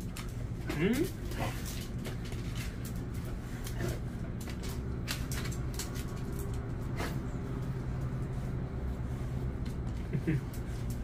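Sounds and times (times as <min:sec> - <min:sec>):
dog scuffs and clicks: 0:00.0 - 0:11.0
steady low hum: 0:00.0 - 0:11.0.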